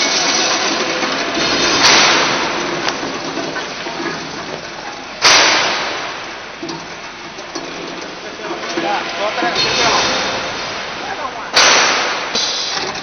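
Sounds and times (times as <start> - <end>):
machine running with mechanical din: 0.0 - 13.0.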